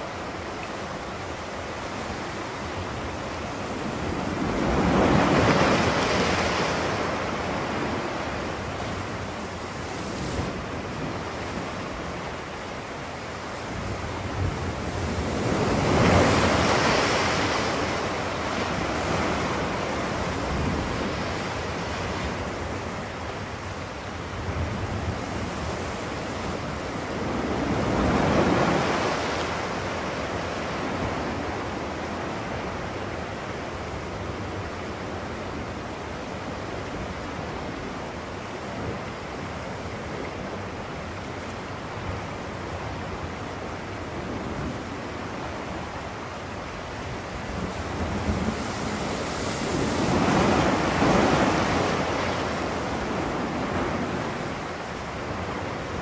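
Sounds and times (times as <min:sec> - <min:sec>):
waves washing onto shore: 0:00.0 - 0:56.0.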